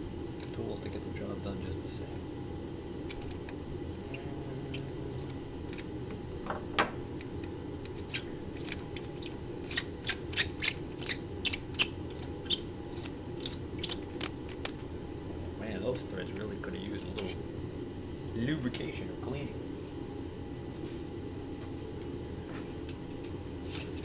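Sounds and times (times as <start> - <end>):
faint room hum: 0.0 - 24.0.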